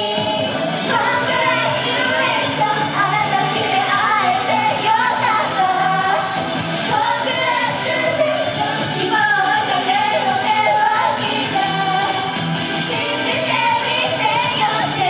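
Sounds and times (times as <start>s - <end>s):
upbeat pop accompaniment: 0.0s - 15.0s
women singing: 0.0s - 15.0s.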